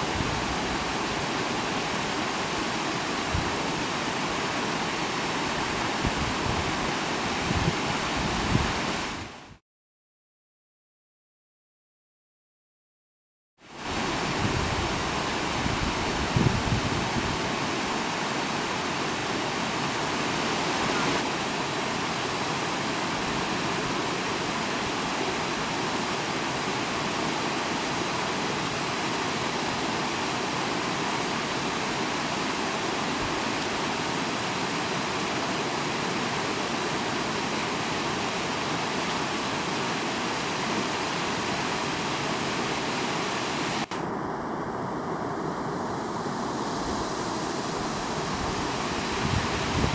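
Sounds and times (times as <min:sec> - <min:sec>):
river rushing: 0:00.0 - 0:09.6, 0:13.6 - 0:49.9.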